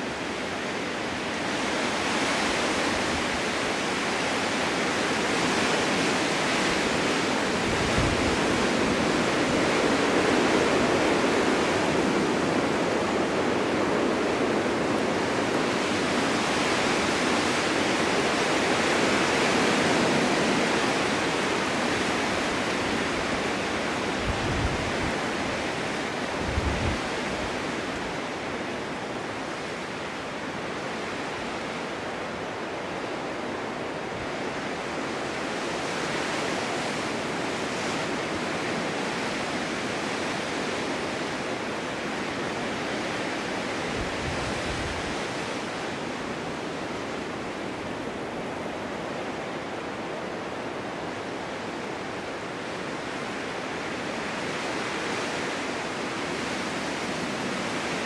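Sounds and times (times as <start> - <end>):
snowstorm wind blowing: 0.0 - 58.0.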